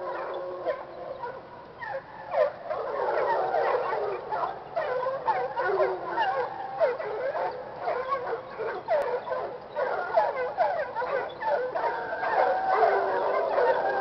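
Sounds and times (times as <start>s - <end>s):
hounds baying and howling: 0.0s - 14.0s.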